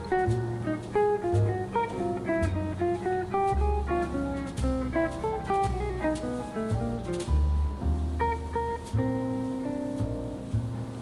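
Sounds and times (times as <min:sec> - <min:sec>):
bass line: 0:00.0 - 0:11.0
plucked guitar melody: 0:00.0 - 0:11.0.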